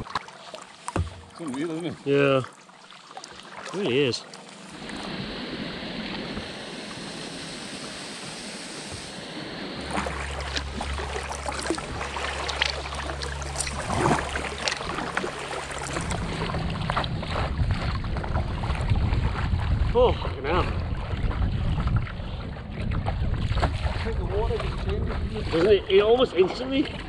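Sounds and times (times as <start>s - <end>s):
water rushing over weir: 0.0s - 22.7s
paddle strokes splashing: 0.0s - 27.0s
low steady hum: 3.3s - 27.0s
wind buffeting microphone: 4.8s - 27.0s.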